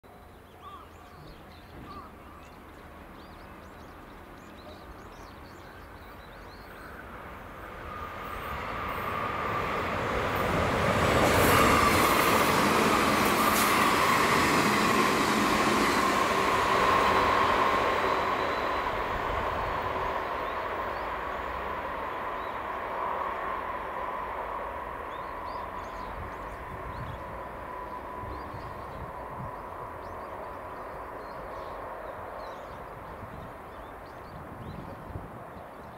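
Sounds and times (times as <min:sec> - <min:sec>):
electric train passing at speed: 0:00.1 - 0:35.9.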